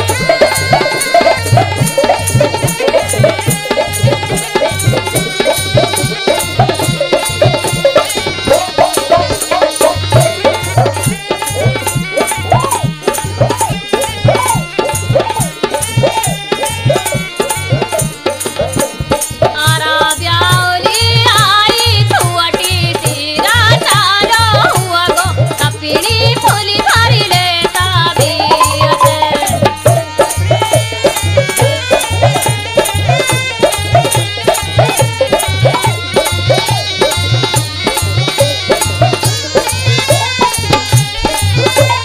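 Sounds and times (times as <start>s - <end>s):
hand-drum beat: 0.0s - 42.0s
snake-charmer's pipe melody: 0.0s - 42.0s.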